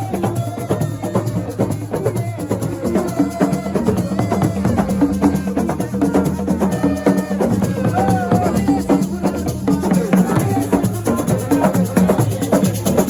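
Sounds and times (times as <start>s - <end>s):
fast dense drumming: 0.0s - 13.0s
shakers: 0.0s - 13.0s.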